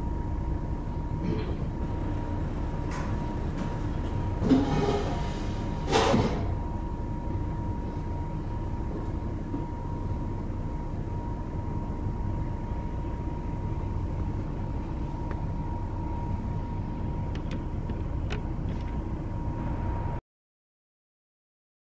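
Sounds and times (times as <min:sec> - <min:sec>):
faint steady whine: 0:00.0 - 0:20.2
machinery rumble: 0:00.0 - 0:20.2.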